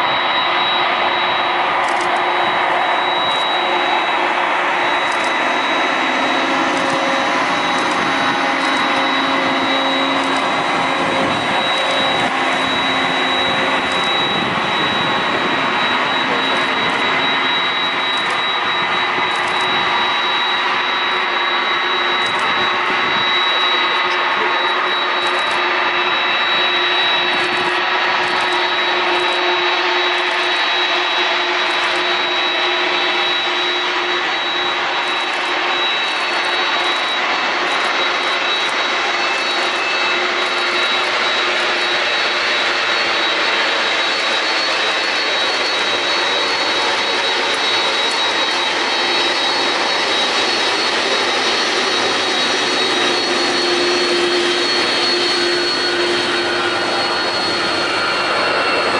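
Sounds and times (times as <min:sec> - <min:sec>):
jet engine roar with whine: 0:00.0 - 0:58.9.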